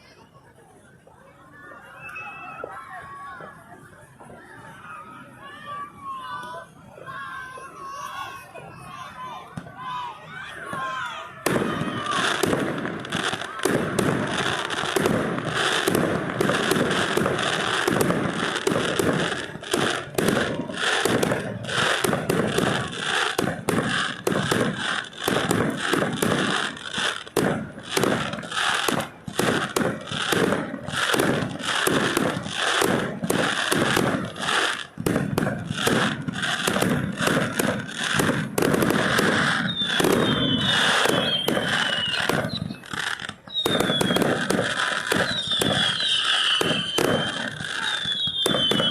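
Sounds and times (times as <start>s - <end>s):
falling firework whistles: 1.8s - 2.8s, 10.7s - 48.9s
fireworks bangs and crackles: 5.7s - 48.9s.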